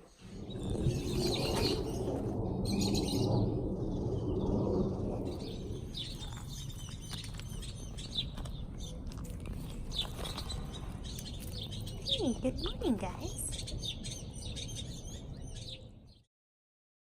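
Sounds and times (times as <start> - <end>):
small birds chirping: 0.0 - 16.3.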